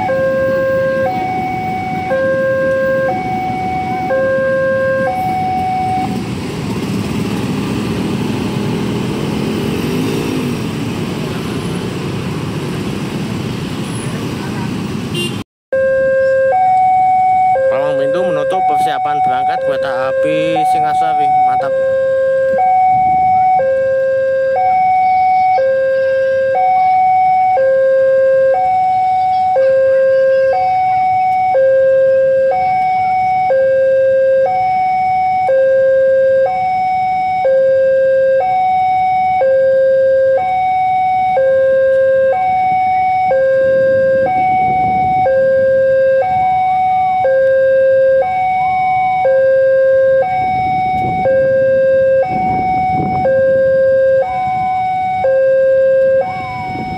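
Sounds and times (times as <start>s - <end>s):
level crossing alarm two-tone: 0.0s - 6.2s, 15.8s - 56.9s.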